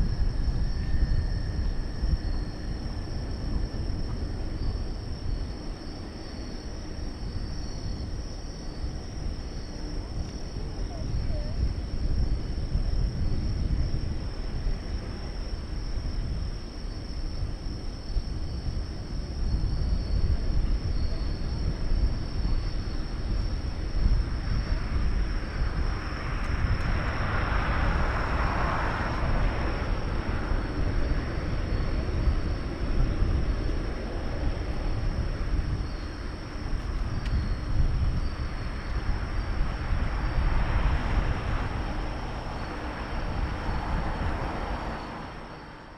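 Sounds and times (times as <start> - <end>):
jet engines rumbling: 0.0 - 45.9.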